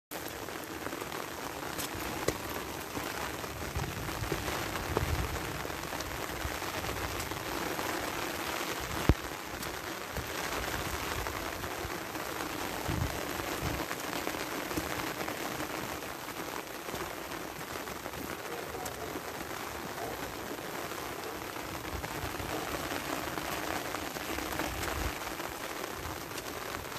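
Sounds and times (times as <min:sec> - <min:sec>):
rain falling on wet soil: 0:00.1 - 0:26.9.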